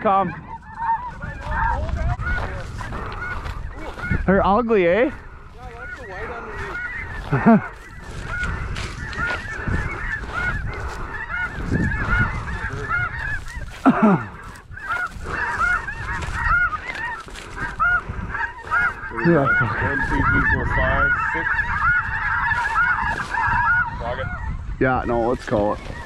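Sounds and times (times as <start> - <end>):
geese yelping calls: 0.0 - 26.0.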